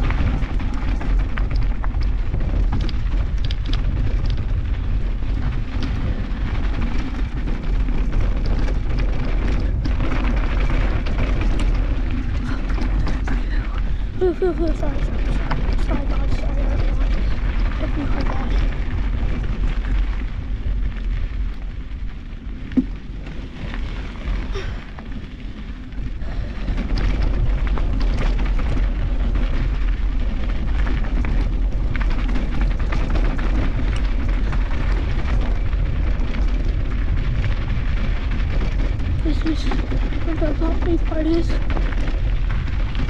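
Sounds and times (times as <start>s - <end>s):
wind rumble on camera: 0.0s - 43.0s.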